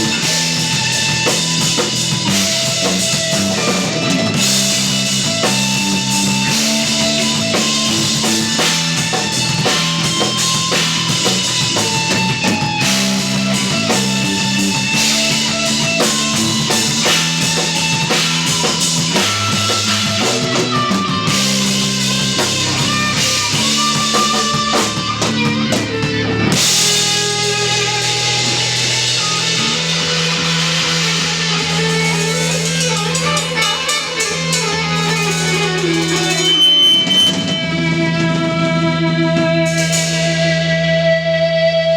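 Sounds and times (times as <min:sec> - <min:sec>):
drum kit: 0:00.0 - 0:41.9
electric bass: 0:00.0 - 0:41.9
electric guitar: 0:00.0 - 0:41.9.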